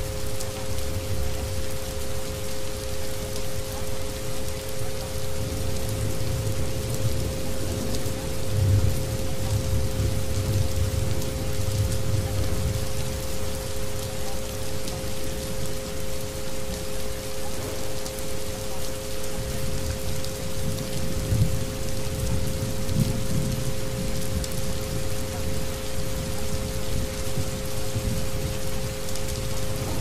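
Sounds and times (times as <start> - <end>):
rain on a hard surface: 0.0 - 30.0.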